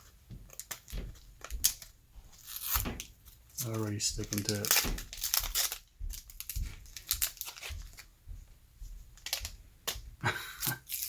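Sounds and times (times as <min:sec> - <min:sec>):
wax paper wrapper crinkling and tearing: 0:00.0 - 0:08.1, 0:09.1 - 0:10.0, 0:10.6 - 0:11.0.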